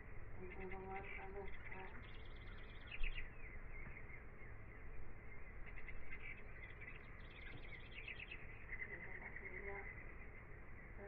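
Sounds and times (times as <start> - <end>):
birds chirping in trills: 0.0 - 11.0
low steady rumble: 0.0 - 11.0.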